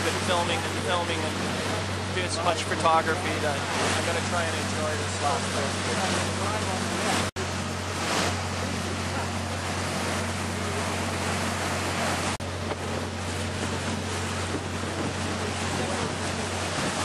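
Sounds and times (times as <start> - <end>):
boat engine droning: 0.0 - 17.0
rush of boat wake: 0.0 - 17.0.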